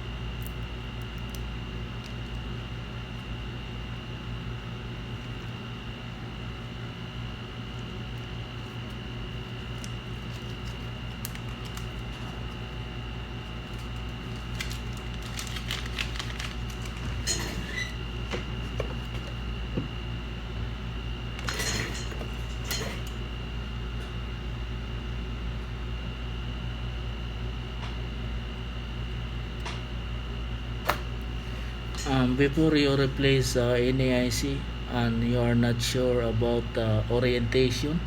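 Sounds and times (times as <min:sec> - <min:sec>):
fan hum: 0:00.0 - 0:38.0
high steady whine: 0:00.0 - 0:38.0.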